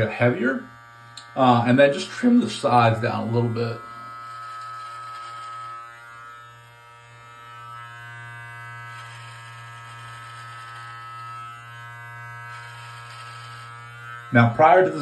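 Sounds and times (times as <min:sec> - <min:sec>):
beard trimmer buzzing: 0:00.0 - 0:15.0.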